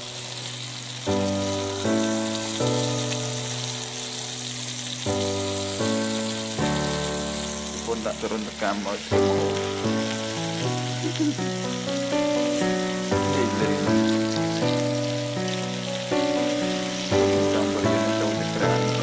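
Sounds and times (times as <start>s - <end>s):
background music of held notes: 0.0s - 19.0s
food sizzling in a pan: 0.0s - 19.0s.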